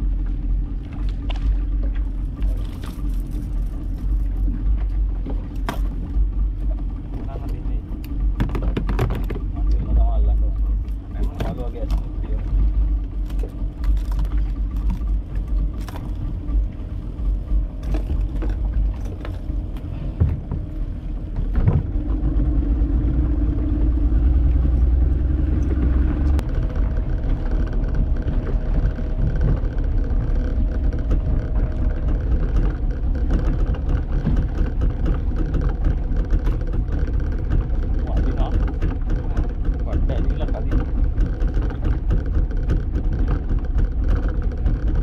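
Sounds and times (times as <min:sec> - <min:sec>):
outboard motor rumbling: 0:00.0 - 0:45.0.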